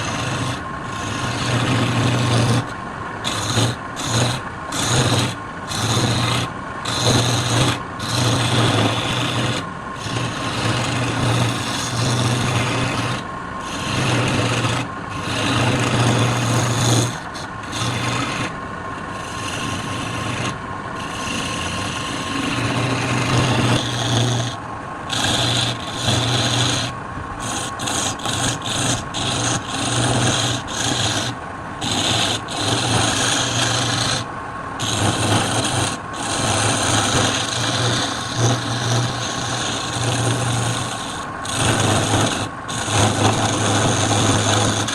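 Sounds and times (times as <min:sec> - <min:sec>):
tool rasping against spinning wood: 0:00.0 - 0:44.9.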